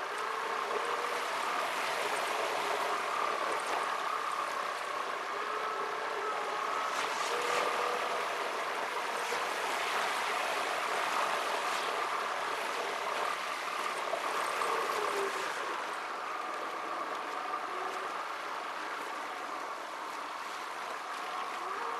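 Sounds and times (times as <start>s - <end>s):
faint wavering hum: 0.0s - 21.9s.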